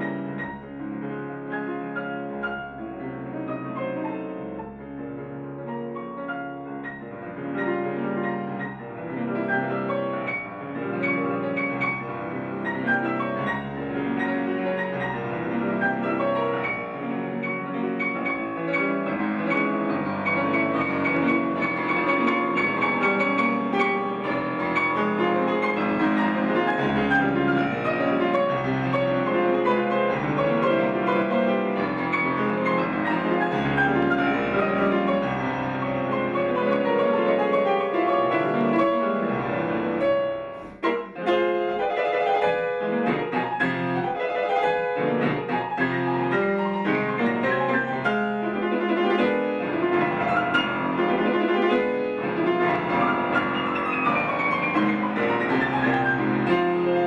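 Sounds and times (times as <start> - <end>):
solo grand piano piece: 0.0 - 57.0.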